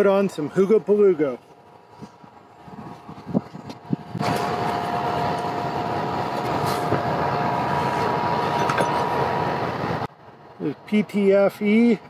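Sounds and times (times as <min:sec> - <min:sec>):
thin steady whine: 0:00.0 - 0:12.0
machinery noise: 0:00.4 - 0:10.1.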